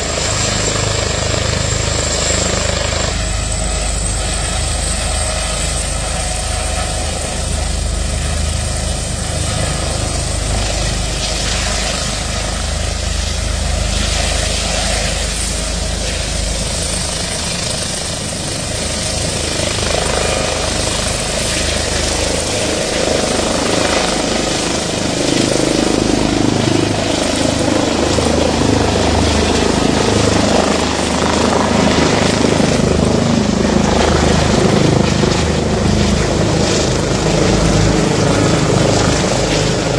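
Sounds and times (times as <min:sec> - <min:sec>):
helicopter turbine whine and rotor: 0:00.0 - 0:39.9.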